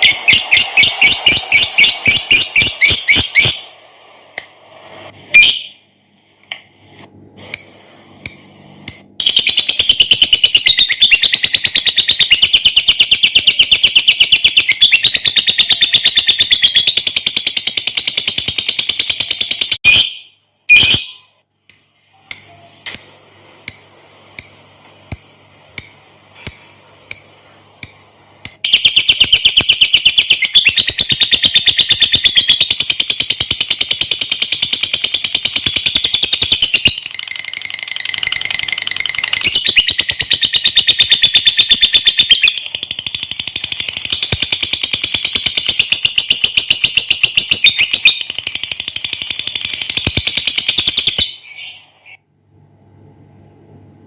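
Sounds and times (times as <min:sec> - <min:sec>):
lovebird chirping and chattering: 0:00.0 - 0:03.7, 0:07.5 - 0:51.9.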